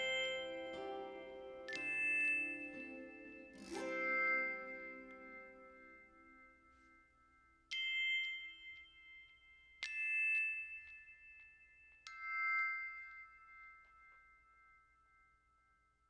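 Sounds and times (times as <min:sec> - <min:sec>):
bell-like struck notes: 0:00.0 - 0:15.7.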